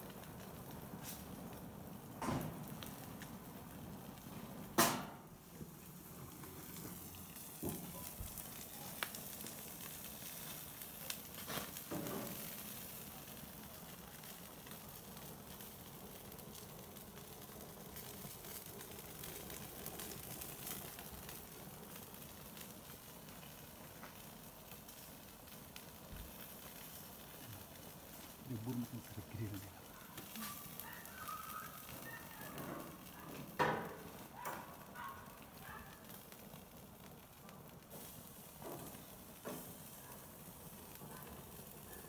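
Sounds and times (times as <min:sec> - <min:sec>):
fish sizzling on grill: 0:00.0 - 0:42.0.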